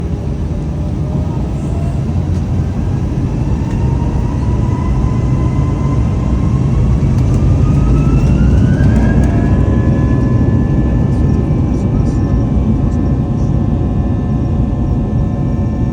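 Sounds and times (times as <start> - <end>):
jet engines spooling up: 0.0 - 15.9.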